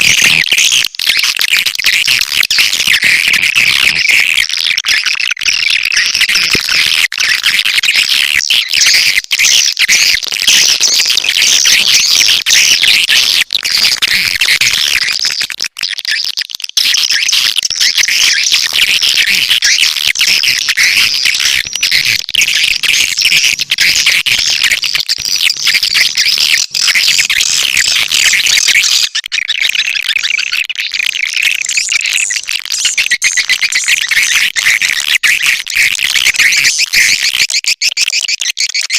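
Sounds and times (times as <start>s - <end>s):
swiftlets twittering and chirping: 0.0s - 38.9s.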